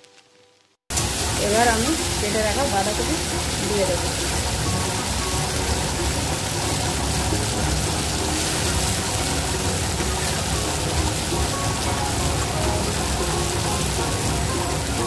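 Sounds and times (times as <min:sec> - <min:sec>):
soft background music: 0:00.0 - 0:15.0
spices sizzling in oil: 0:00.1 - 0:15.0.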